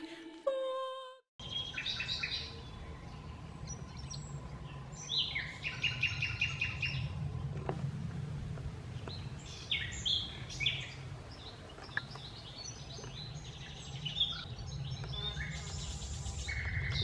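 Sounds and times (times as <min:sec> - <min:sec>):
small songbirds chirping: 0:01.4 - 0:07.7, 0:08.8 - 0:17.0
low background rumble: 0:01.4 - 0:17.0.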